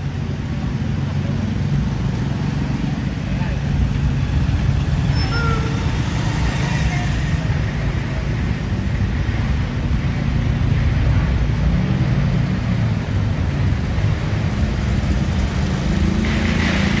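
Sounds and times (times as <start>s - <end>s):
truck engines rumbling past: 0.0s - 17.0s.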